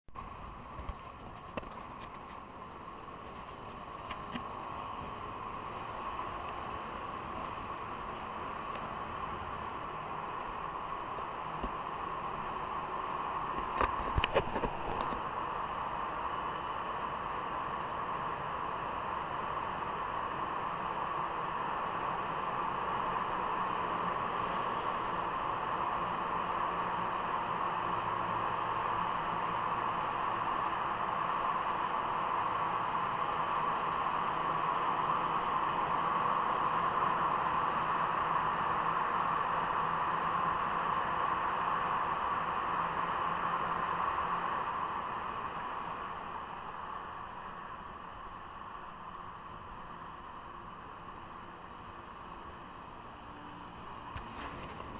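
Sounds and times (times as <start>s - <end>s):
road noise: 0.1s - 54.9s
wind noise: 0.2s - 51.9s.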